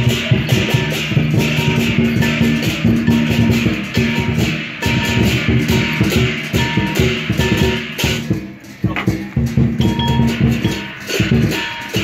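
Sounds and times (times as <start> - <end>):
gong ringing: 0.0 - 8.2, 9.8 - 12.0
cymbals ringing: 0.0 - 12.0
drum beats: 0.0 - 12.0.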